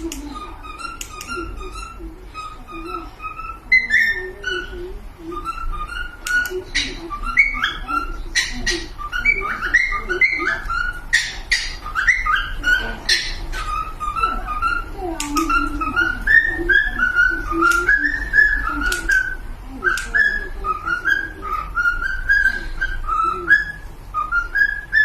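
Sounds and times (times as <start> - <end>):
cockatiels chirping: 0.0 - 25.0
cockatiels whistling: 0.0 - 25.0.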